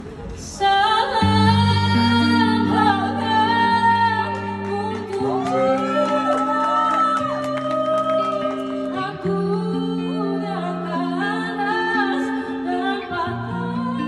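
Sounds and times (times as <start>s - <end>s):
acoustic guitar: 0.0s - 14.0s
woman singing: 0.4s - 14.0s.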